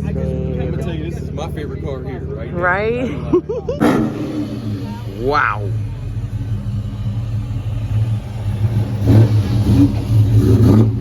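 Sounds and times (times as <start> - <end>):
car engine running and revving: 0.0 - 11.0.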